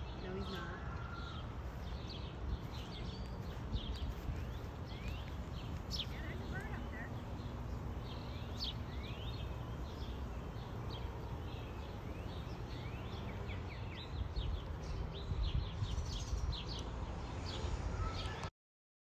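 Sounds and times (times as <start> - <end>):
small songbirds chirping: 0.0 - 18.5
steady low rumble: 1.6 - 18.0.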